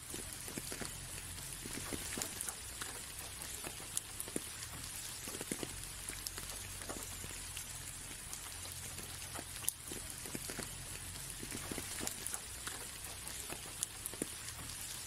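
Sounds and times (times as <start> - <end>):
light rain on a window: 0.0 - 15.0
raindrops ticking on glass: 0.0 - 15.0.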